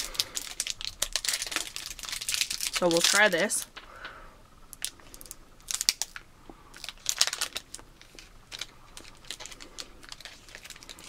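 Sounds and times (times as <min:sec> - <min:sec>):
plastic wrapper crinkling: 0:00.0 - 0:03.9, 0:04.7 - 0:11.0.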